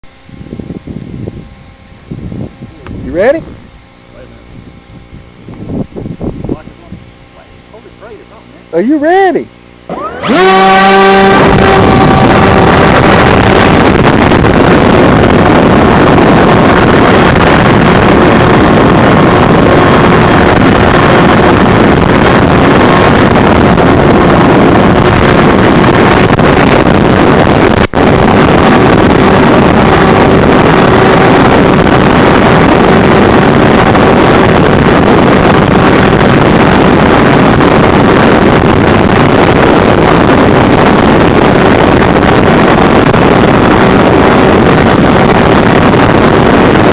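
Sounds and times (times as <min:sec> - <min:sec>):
drone motors rushing: 0:00.0 - 0:46.9
faint motor whine: 0:00.0 - 0:46.9
wind buffeting the microphone: 0:00.0 - 0:46.9.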